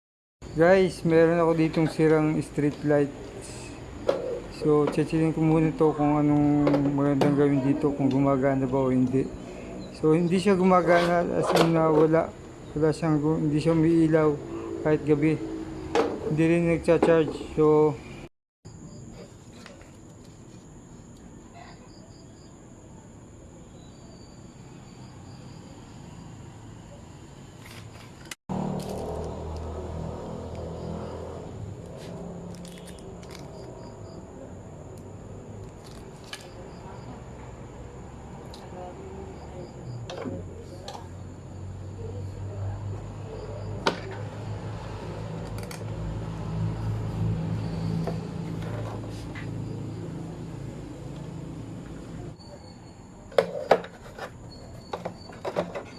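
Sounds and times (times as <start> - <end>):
crickets chirping: 0.4 - 55.9.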